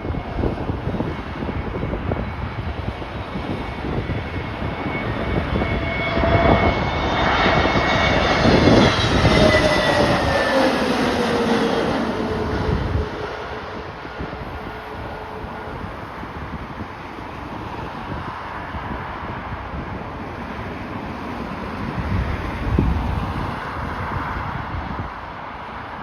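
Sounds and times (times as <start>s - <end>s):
gusty wind on microphone: 0.0s - 26.0s
jet airliner passing: 0.0s - 26.0s.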